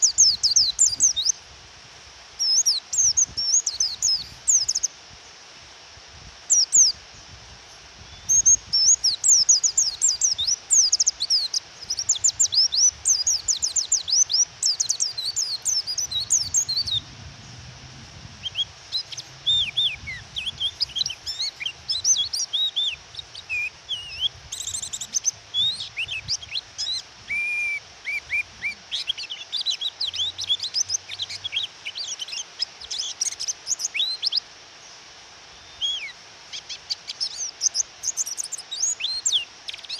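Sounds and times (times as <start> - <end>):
bird twittering chirps: 0.0 - 1.4, 2.4 - 4.9, 6.5 - 7.0, 8.1 - 17.1, 18.4 - 34.5, 35.6 - 39.9
rain hissing: 0.0 - 39.9.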